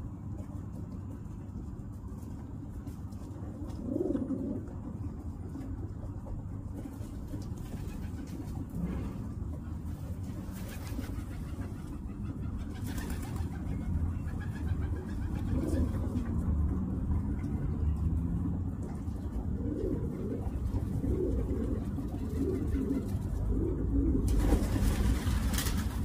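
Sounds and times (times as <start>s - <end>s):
steady low rumble: 0.0s - 26.0s
pigeons cooing: 2.6s - 26.0s.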